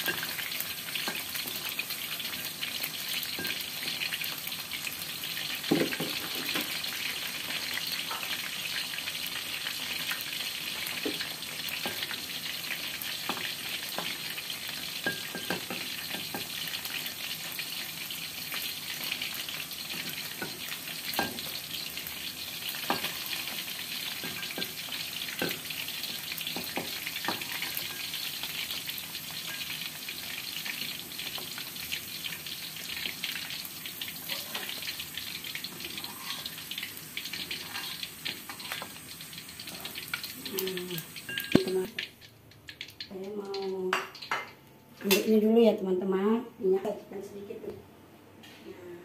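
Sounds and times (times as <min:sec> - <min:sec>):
chicken deep-frying in oil: 0:00.0 - 0:44.6.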